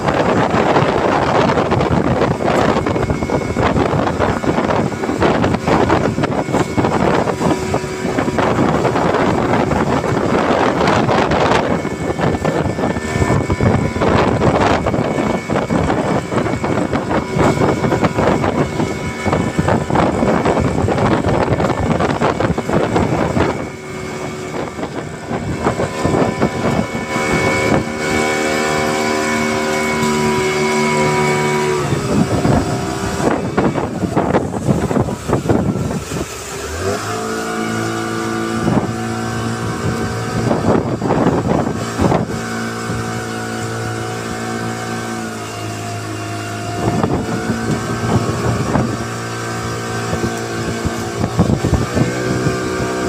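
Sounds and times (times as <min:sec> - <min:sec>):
boat engine running: 0:00.0 - 0:53.0
water rushing along hull: 0:00.0 - 0:53.0
wind buffeting microphone: 0:00.0 - 0:53.0.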